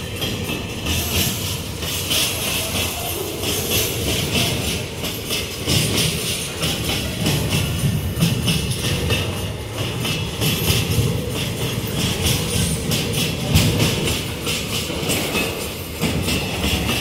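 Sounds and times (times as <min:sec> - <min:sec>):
steel wheels clattering on rails: 0:00.0 - 0:17.0.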